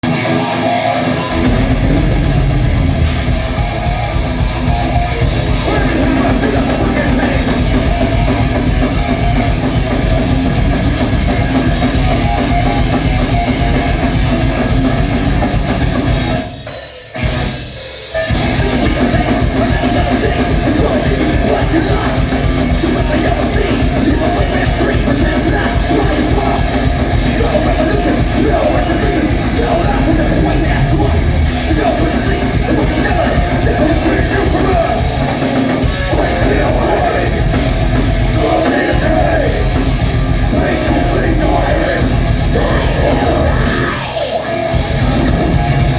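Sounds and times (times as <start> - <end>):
loud heavy rock band: 0.0 - 45.9.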